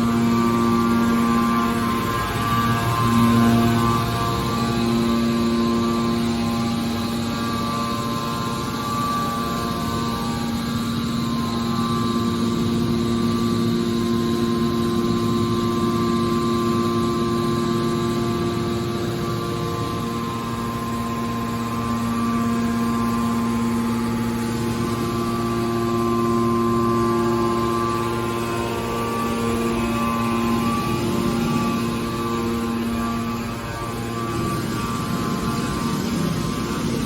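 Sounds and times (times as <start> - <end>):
baler machine hum and rumble: 0.0 - 37.0.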